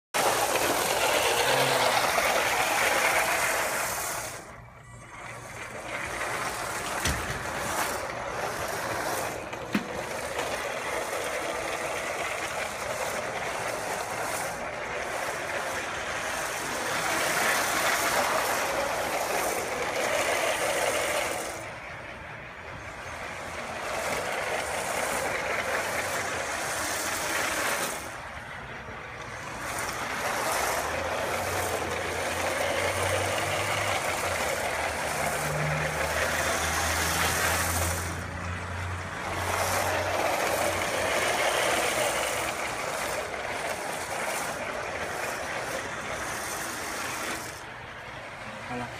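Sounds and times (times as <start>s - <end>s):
toy train motor whirring: 0.1s - 48.9s
toy train wheels rattling: 0.1s - 48.9s.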